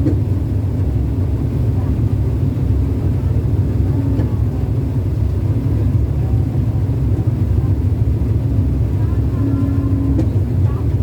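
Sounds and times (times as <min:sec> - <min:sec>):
ship engine rumbling: 0:00.0 - 0:11.0.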